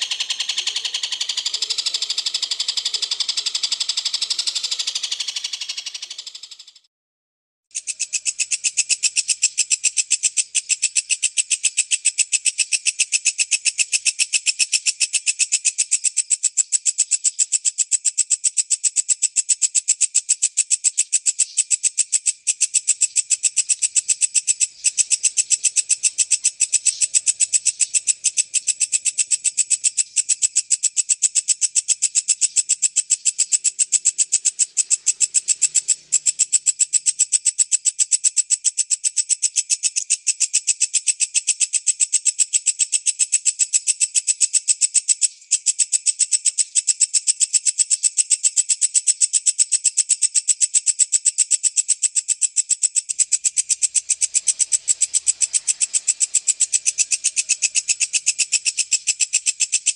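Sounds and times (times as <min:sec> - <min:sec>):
bush-cricket stridulating: 0:00.0 - 0:06.9, 0:07.7 - 0:59.9.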